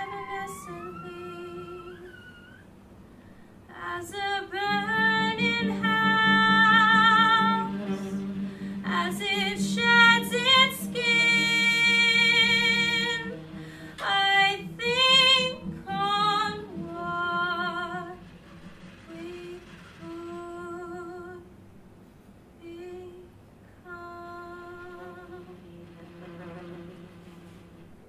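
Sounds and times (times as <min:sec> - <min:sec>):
woman singing with vibrato: 0:00.0 - 0:02.6, 0:03.7 - 0:21.6, 0:22.6 - 0:28.0.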